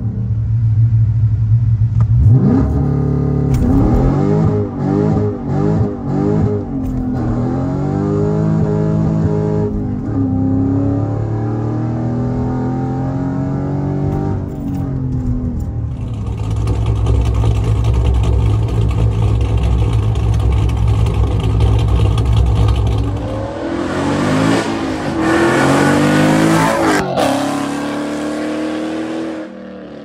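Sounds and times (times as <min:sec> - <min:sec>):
car engine accelerating: 0:01.6 - 0:30.0
engine revving: 0:02.2 - 0:30.0.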